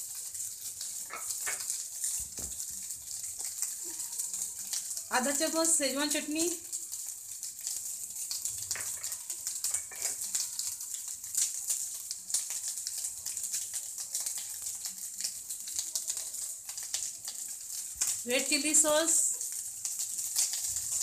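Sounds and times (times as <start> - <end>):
rice sizzling in a pan: 0.0 - 21.0.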